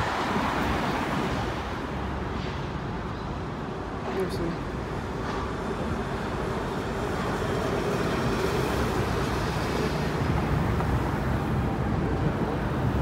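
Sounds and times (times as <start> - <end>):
road traffic: 0.0 - 13.0
tram wheels on rails: 0.0 - 13.0.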